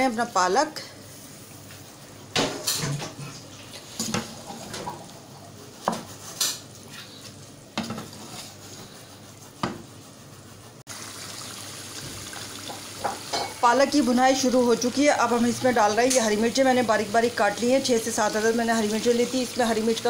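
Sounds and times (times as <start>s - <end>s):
low sizzle of frying: 0.0s - 20.0s.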